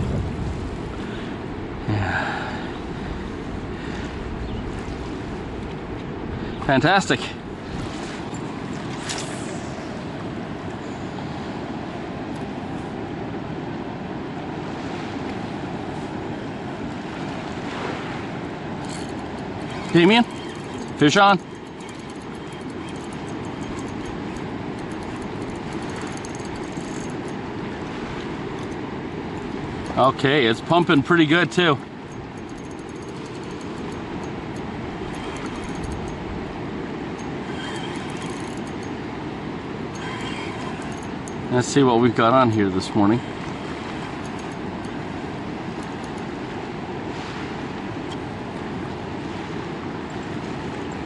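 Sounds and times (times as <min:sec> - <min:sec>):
wind buffeting microphone: 0:00.0 - 0:51.0
fast-flowing river water rushing: 0:06.6 - 0:51.0.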